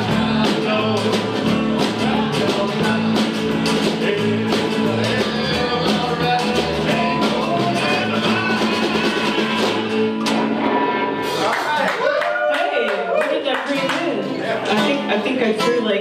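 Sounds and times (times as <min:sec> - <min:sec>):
live rock and roll music: 0:00.0 - 0:16.0.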